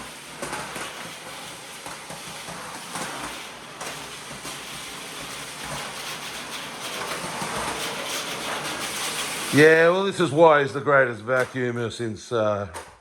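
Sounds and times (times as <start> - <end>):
vacuum cleaner running: 0.0 - 11.8.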